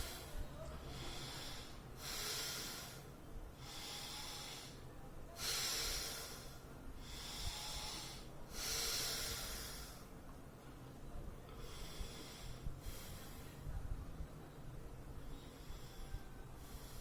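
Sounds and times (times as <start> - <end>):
forceful breathing: 0.0 - 10.2, 11.5 - 13.7, 15.2 - 17.0.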